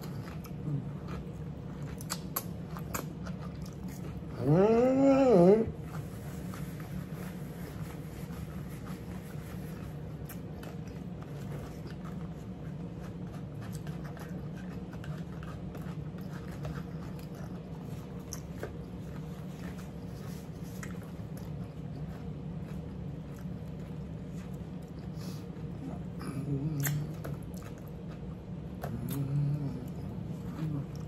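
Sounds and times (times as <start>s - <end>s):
people chewing crunchy food: 0.0s - 31.0s.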